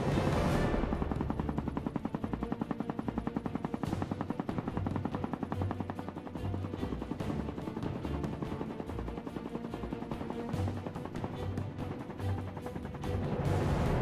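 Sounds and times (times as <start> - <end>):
helicopter rotor blades chopping: 0.0 - 14.0.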